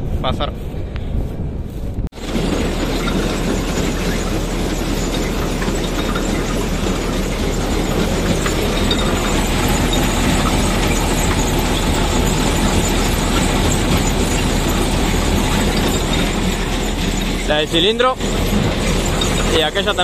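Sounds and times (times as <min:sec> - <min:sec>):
combine harvester running: 0:01.7 - 0:20.0.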